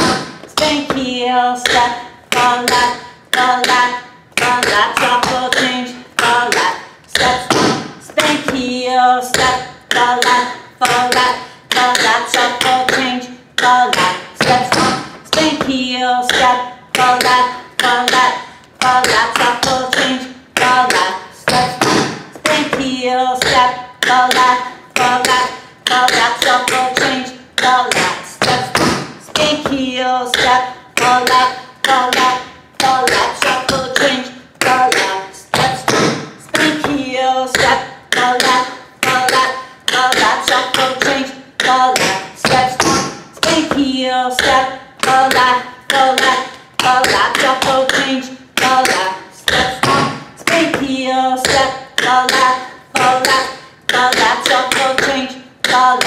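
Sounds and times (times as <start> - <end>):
tap shoes on hard floor: 0.0 - 8.7, 9.3 - 56.0.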